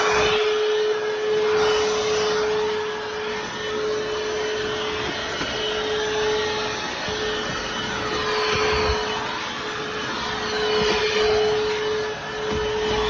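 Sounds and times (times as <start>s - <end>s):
vacuum cleaner motor whine: 0.0s - 13.0s.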